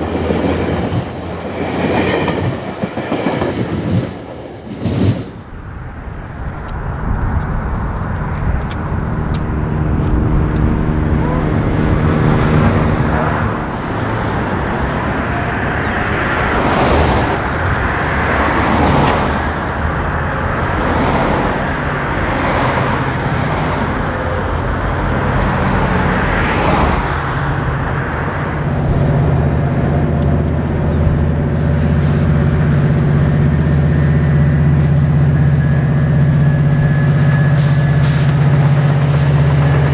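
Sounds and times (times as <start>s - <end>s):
diesel locomotive engine drone: 0.0s - 39.9s
rushing noise: 0.0s - 39.9s.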